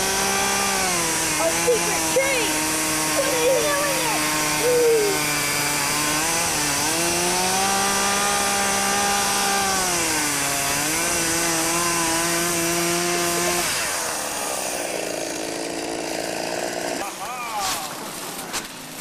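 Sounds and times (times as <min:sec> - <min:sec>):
chainsaw engine high revs: 0:00.0 - 0:19.0.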